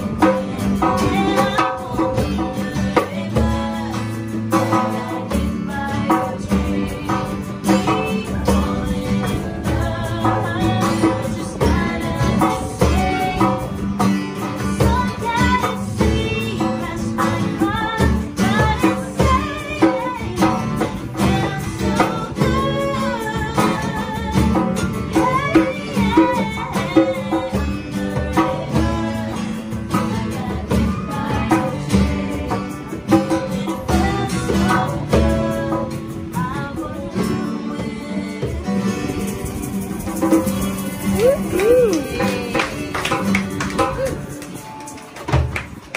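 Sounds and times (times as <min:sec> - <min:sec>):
women singing: 0:00.0 - 0:44.0
hand drum beat: 0:00.0 - 0:45.9
strummed acoustic guitars: 0:00.0 - 0:45.9.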